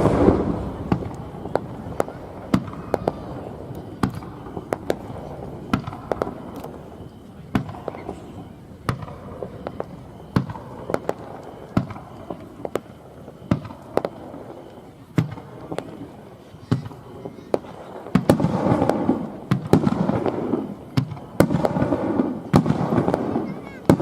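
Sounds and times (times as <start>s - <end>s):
aerial fireworks bursting: 0.0s - 24.0s
fireworks crackling: 0.0s - 24.0s.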